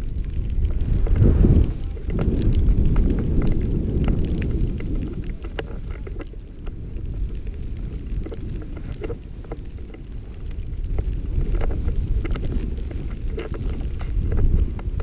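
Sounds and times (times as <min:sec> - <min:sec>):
small clicks and ticks: 0:00.0 - 0:15.0
wind rumbling on microphone: 0:00.0 - 0:15.0.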